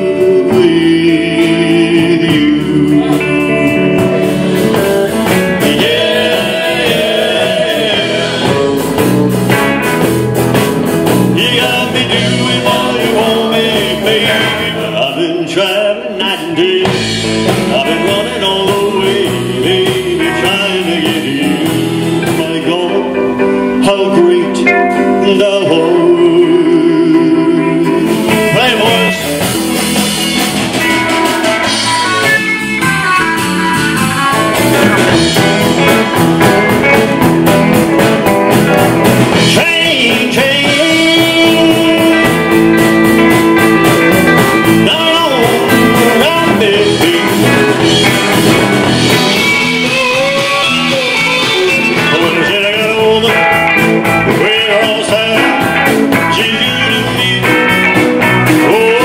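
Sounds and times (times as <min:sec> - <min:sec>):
live rock band with electric guitar: 0:00.0 - 0:59.0.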